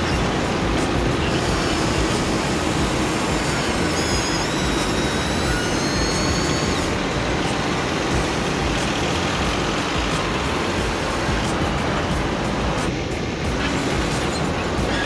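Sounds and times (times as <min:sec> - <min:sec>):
high electric motor whine: 0:00.0 - 0:15.0.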